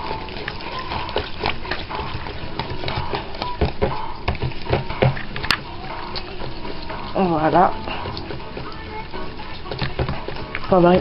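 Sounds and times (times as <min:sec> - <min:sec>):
utensil stirring and scraping bowl: 0:00.0 - 0:11.0.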